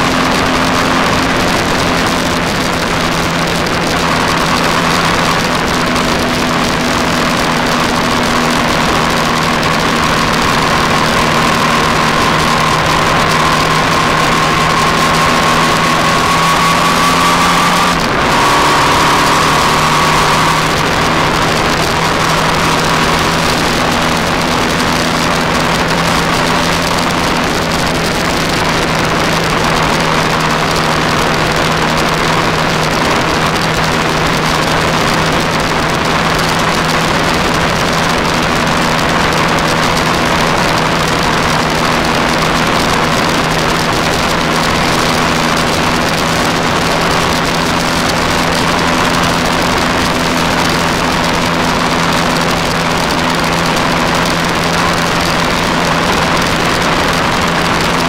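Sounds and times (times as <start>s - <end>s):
motorcycle engine drone: 0.0s - 58.0s
wind rushing over camera: 0.0s - 58.0s.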